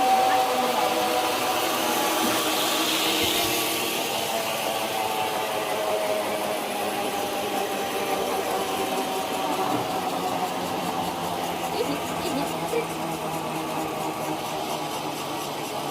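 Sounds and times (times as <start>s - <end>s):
machinery engine running: 0.0s - 15.9s.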